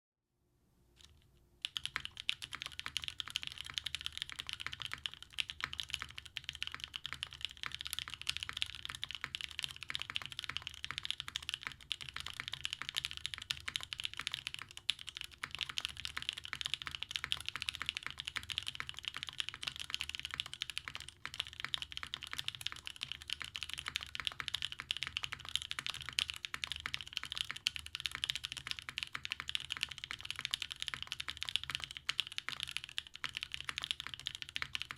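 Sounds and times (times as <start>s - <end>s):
fast mechanical keyboard typing: 1.0s - 34.9s.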